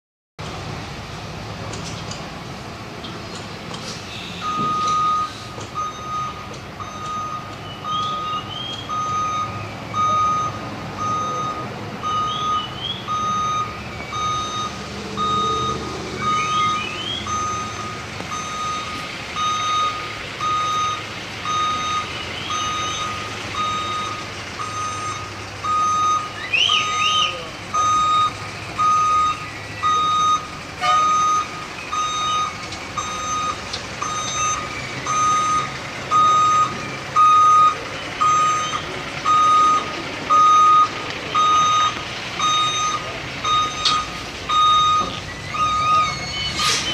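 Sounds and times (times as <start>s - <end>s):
diesel engine running: 0.4s - 46.9s
truck backup alarm beeping: 4.2s - 46.9s.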